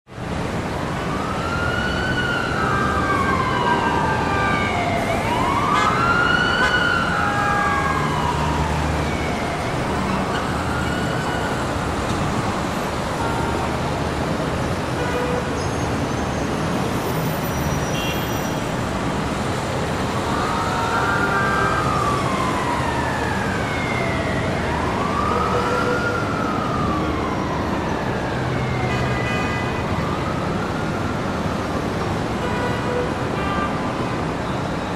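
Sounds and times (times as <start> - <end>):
traffic noise: 0.1 - 34.9
emergency siren wailing: 0.6 - 15.2, 15.9 - 34.9.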